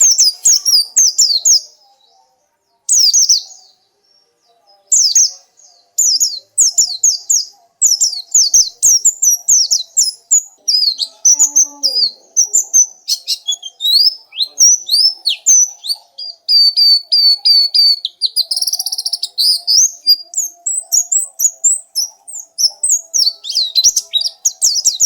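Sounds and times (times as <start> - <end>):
bird chattering song: 0.0 - 1.8, 4.9 - 25.0.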